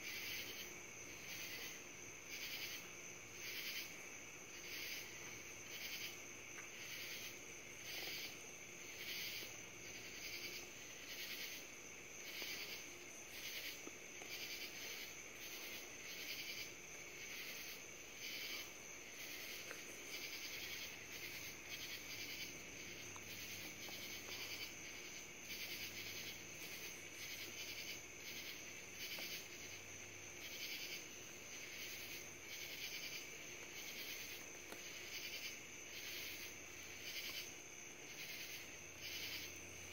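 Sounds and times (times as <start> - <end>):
pulsing insect call: 4.5 - 39.9.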